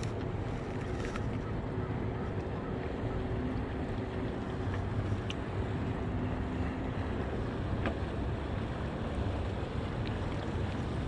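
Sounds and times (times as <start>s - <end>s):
faint steady hum: 0.0s - 11.0s
wind rumble on microphone: 0.0s - 11.0s.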